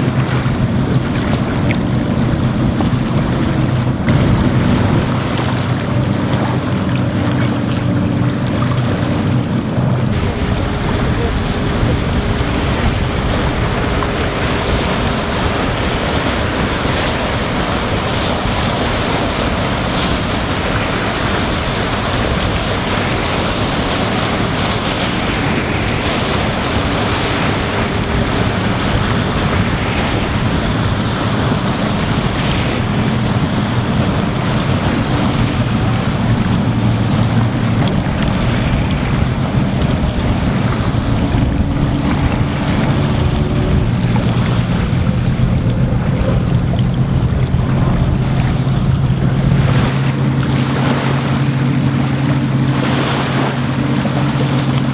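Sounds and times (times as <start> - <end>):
waves on open water: 0.0 - 54.9
wind rushing over microphone: 0.0 - 54.9.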